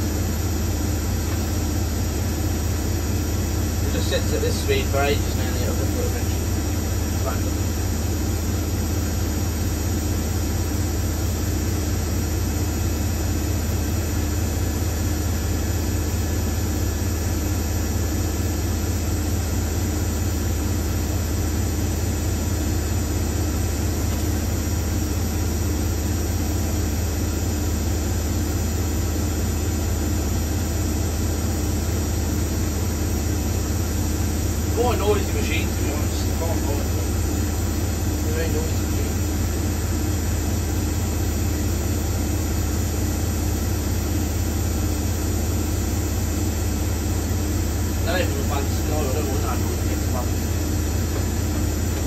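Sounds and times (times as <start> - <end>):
washing machine drum spinning: 0.0 - 52.0.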